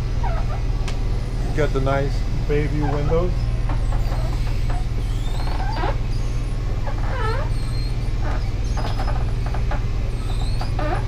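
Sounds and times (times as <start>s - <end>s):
low mechanical hum: 0.0s - 11.0s
squeaky whines: 0.0s - 11.0s.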